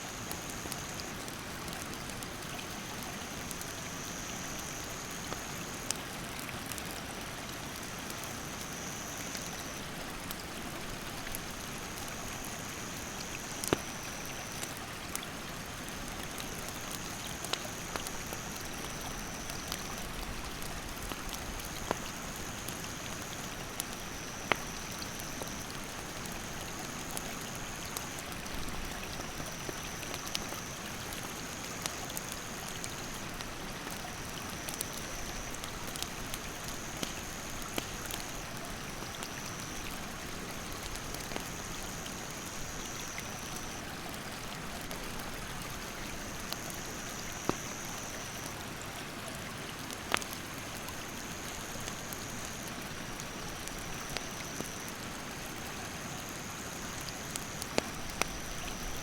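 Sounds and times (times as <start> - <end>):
rushing stream: 0.0 - 59.0
campfire crackling: 0.2 - 59.0.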